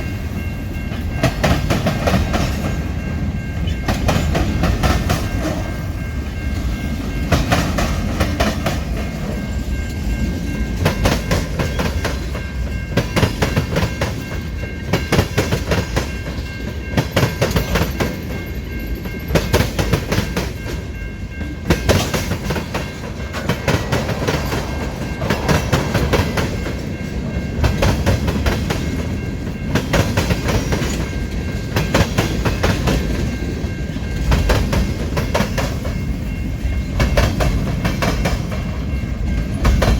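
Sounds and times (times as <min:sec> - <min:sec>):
train cars rumbling past: 0:00.0 - 0:39.9
wheels clacking over rail joints: 0:00.0 - 0:39.9.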